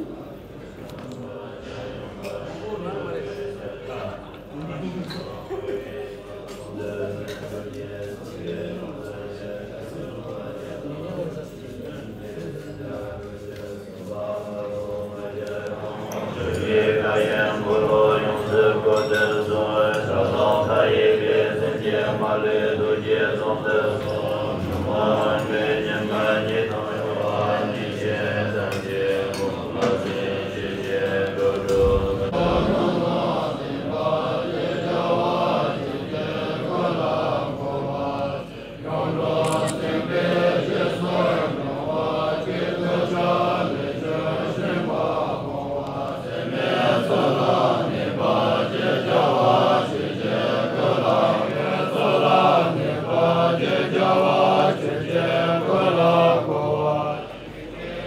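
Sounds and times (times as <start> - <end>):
men chanting together: 0.7 - 58.0.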